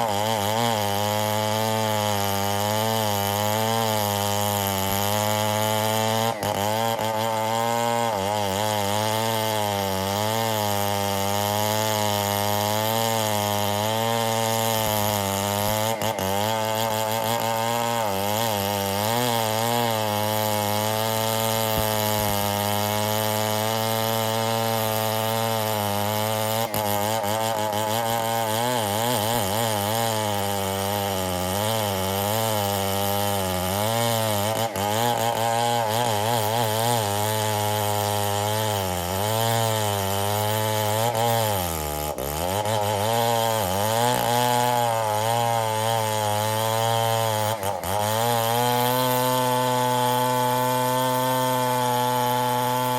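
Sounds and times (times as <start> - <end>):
chainsaw cutting log: 0.0 - 52.9.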